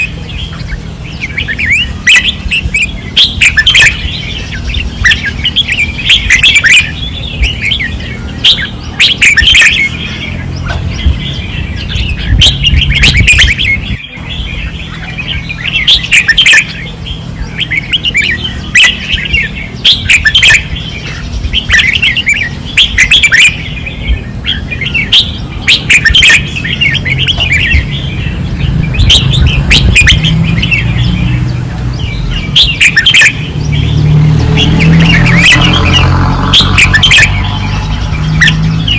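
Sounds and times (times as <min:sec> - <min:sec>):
bulbuls singing short phrases: 0:00.0 - 0:38.9.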